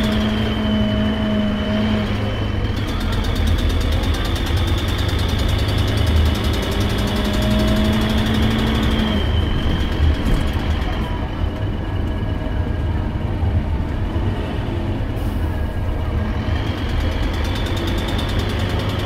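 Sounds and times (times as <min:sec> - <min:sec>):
diesel bus engine rumbling: 0:00.0 - 0:19.0.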